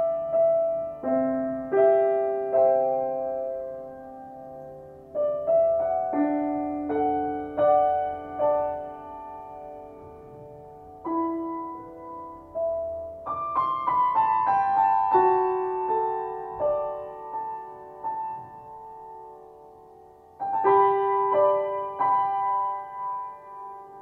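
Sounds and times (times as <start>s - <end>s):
solo piano playing: 0.0s - 24.0s.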